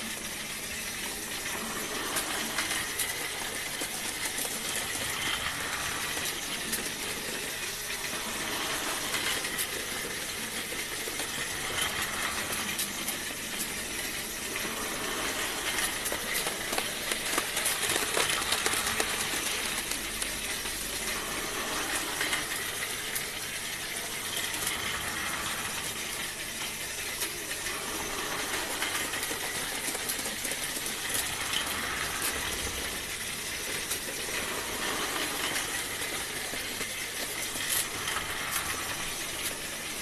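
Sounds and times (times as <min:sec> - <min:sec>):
toy train motor whirring: 0:00.0 - 0:40.0
toy train wheels clicking on track: 0:00.0 - 0:40.0.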